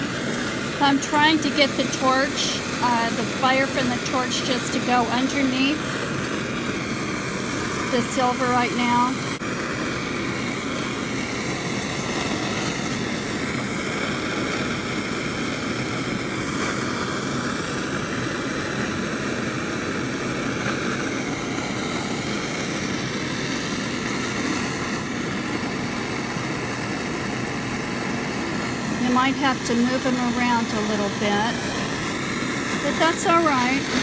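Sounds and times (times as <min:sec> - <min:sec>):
torch flame rushing: 0:00.0 - 0:34.0
ventilation fan running: 0:00.0 - 0:34.0.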